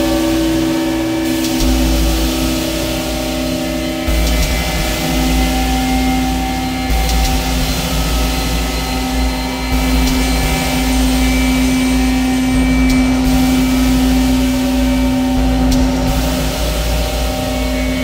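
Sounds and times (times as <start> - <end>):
dark ambient synthesizer drone: 0.0 - 18.0.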